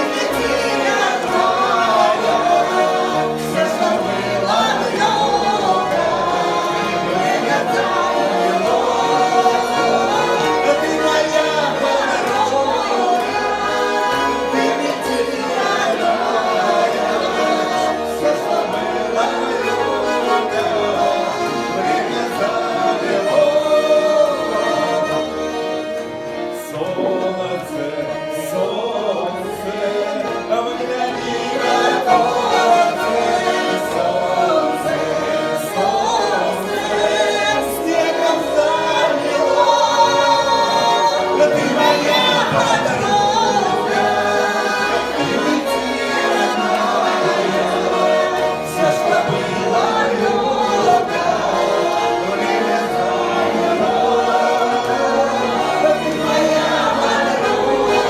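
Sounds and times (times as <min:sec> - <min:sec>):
button accordion: 0:00.0 - 0:58.0
person singing folk song: 0:00.0 - 0:58.0.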